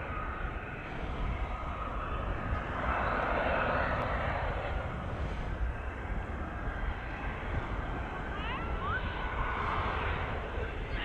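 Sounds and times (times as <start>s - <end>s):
jet engine whine: 0.0s - 11.0s.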